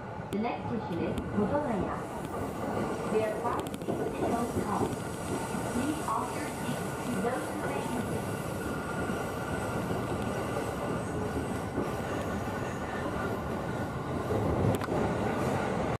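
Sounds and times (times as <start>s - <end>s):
train wheels rumbling on rails: 0.9s - 16.0s.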